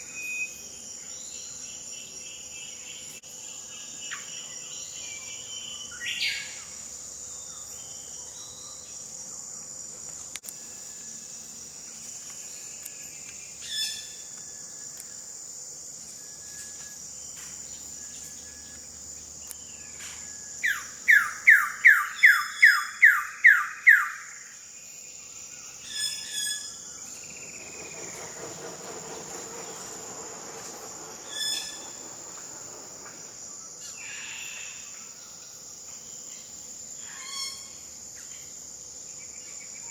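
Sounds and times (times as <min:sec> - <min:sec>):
forest insects droning: 0:00.0 - 0:39.9.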